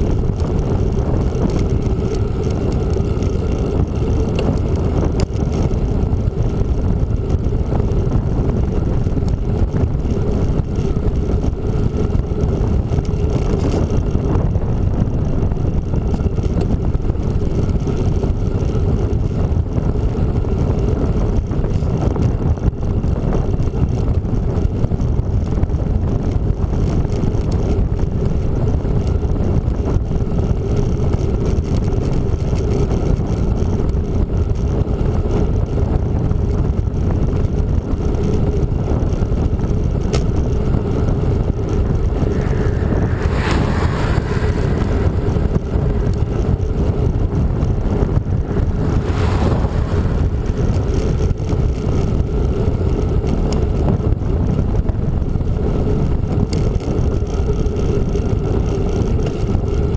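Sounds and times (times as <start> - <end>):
bicycle tyres rumbling on asphalt: 0.0 - 59.9
wind rush on microphone: 0.0 - 59.9.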